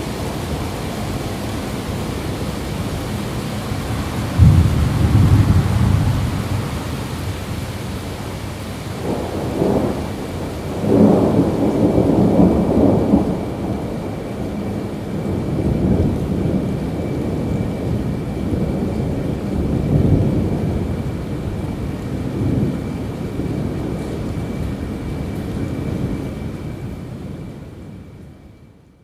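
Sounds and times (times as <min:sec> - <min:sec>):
thunder rolling: 0:00.0 - 0:27.5
steady rain: 0:00.0 - 0:29.0.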